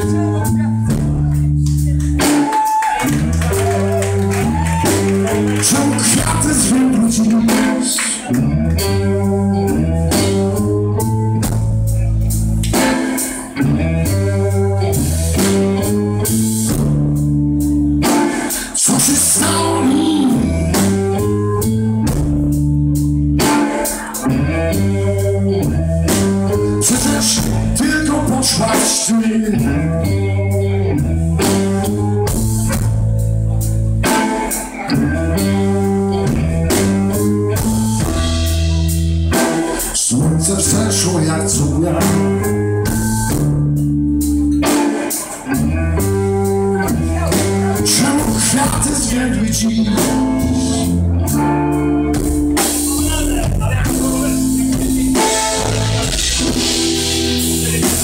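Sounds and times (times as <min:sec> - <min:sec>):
blues band playing: 0:00.0 - 0:58.0.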